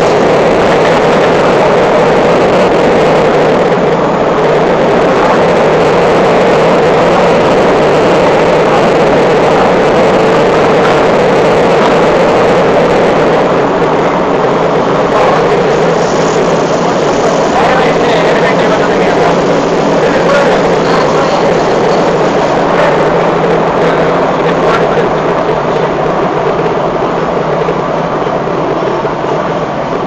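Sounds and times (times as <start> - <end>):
burner flame rushing: 0.0 - 30.0.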